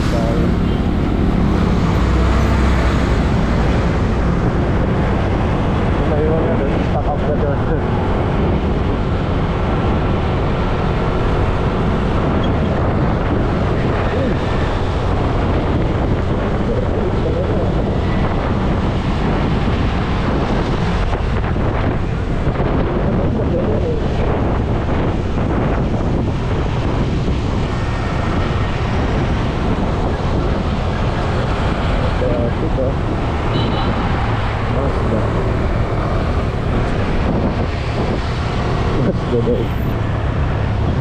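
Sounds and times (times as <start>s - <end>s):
passing road traffic: 0.0s - 41.0s
wind rushing over microphone: 0.0s - 41.0s.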